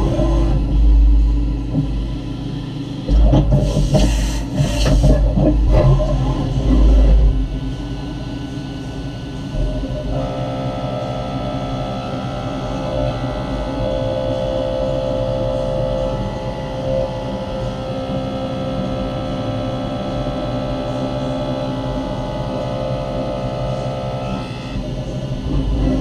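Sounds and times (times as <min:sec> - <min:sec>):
milling machine rumble: 0:00.0 - 0:26.0
steady machining tone: 0:00.0 - 0:26.0.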